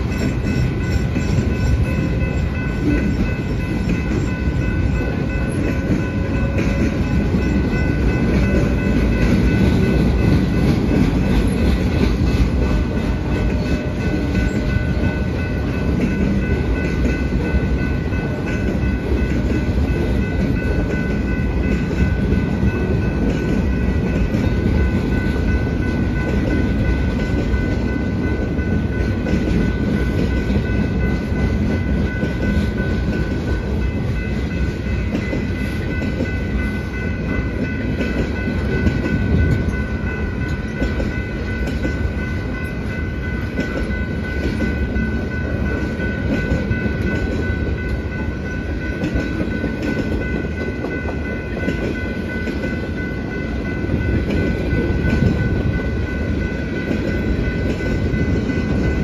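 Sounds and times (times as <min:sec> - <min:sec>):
clickety-clack over rail joints: 0:00.0 - 0:59.0
freight train wheels rumbling: 0:00.0 - 0:59.0.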